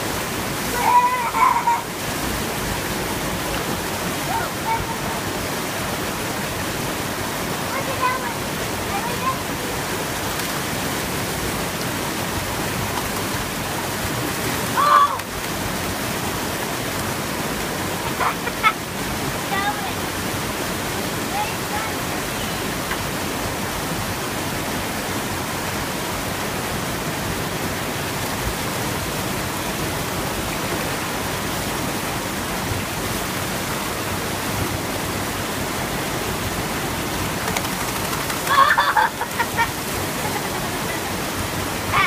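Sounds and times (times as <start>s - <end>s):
water rushing over weir: 0.0s - 42.0s.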